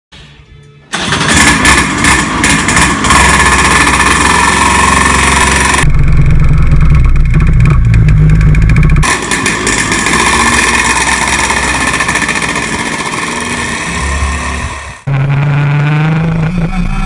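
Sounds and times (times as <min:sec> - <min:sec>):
kart engine running: 0:00.9 - 0:17.0.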